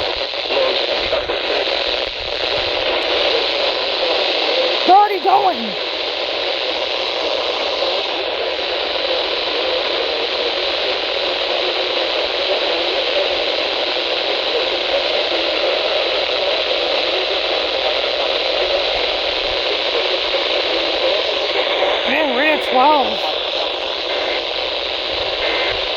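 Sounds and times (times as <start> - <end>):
radio static hiss: 0.0 - 25.9.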